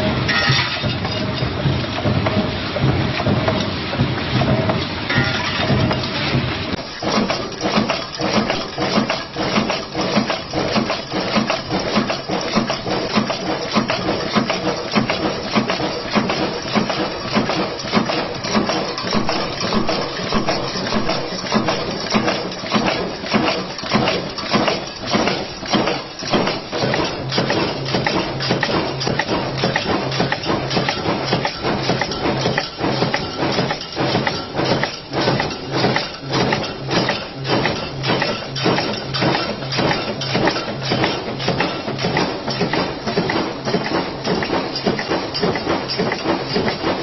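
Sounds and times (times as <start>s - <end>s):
punch press striking metal: 0.0s - 2.4s, 4.6s - 6.1s, 6.8s - 47.0s.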